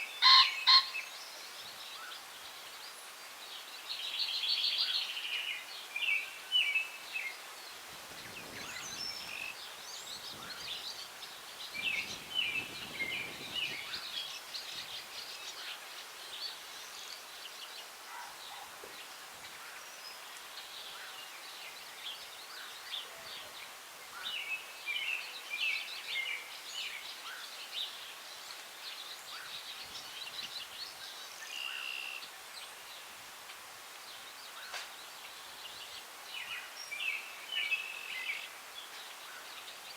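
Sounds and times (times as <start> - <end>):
breeze in the trees: 0.0 - 39.9
songbirds singing and chirping: 0.0 - 39.9.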